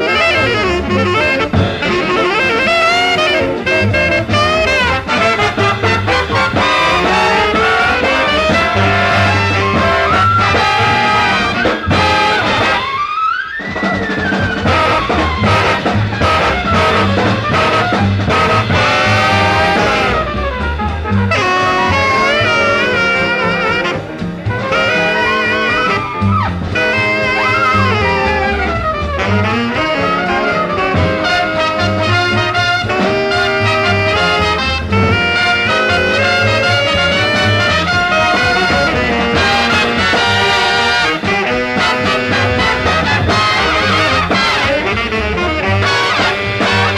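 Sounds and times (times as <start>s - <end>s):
big band swing jazz: 0.0s - 46.9s.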